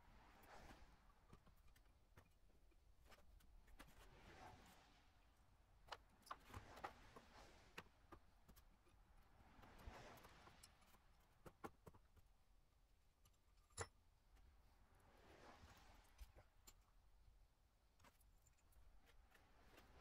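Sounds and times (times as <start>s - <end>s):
soft rustle: 0.0s - 11.4s, 14.3s - 17.1s, 17.8s - 20.0s.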